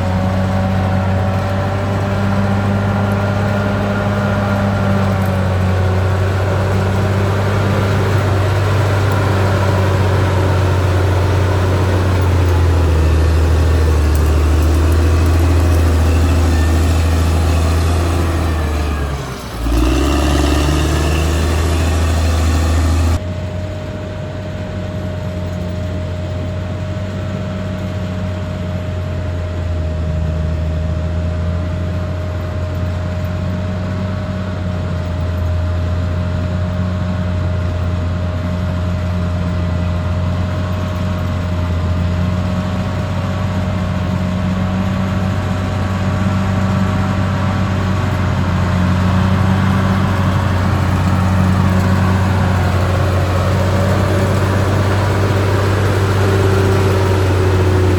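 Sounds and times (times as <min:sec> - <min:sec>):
steady whine: 0:00.0 - 0:30.3, 0:37.3 - 0:57.9
bulldozer diesel engine: 0:00.0 - 0:57.9.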